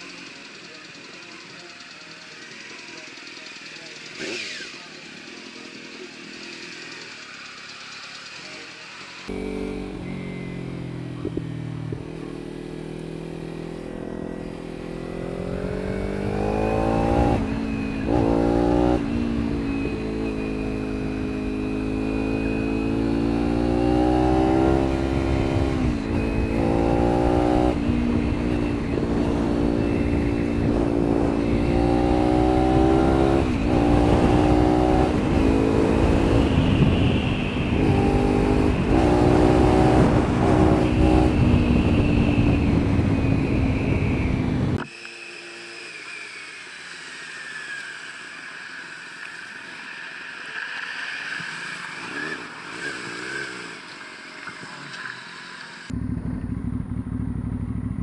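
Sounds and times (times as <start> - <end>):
motorcycle engine accelerating: 0.0 - 46.3, 55.6 - 58.0.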